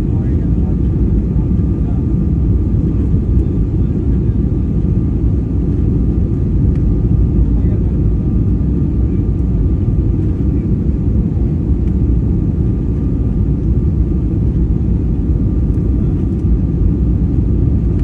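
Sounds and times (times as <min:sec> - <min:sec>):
jet airliner cabin rumble: 0:00.0 - 0:18.0.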